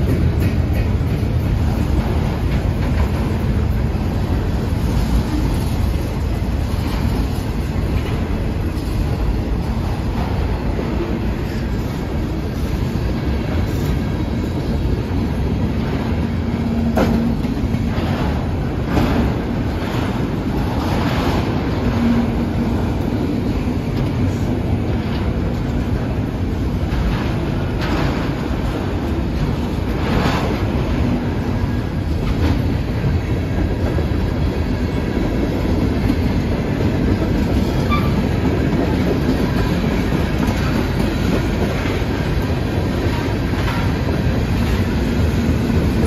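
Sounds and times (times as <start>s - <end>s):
steel wheels clattering over rail joints: 0.0s - 46.0s.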